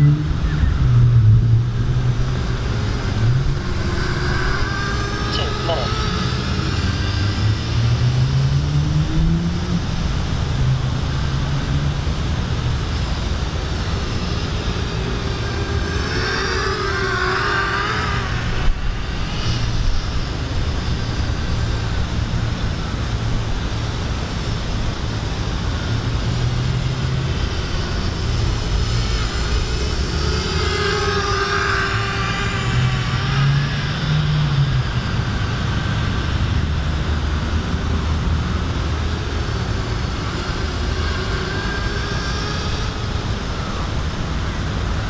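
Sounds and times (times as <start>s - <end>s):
quadcopter propellers whining: 0.0s - 45.0s.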